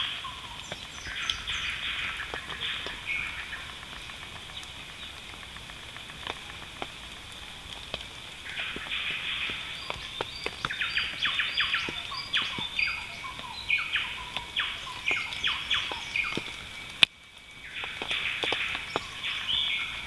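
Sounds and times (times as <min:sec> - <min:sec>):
birds chirping and whistling: 0:00.0 - 0:17.0, 0:17.6 - 0:20.0.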